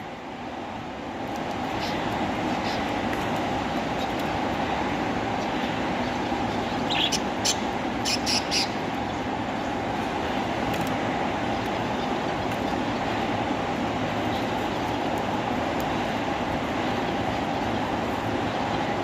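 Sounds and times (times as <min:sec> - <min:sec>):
rumbling background noise: 0:00.0 - 0:19.0.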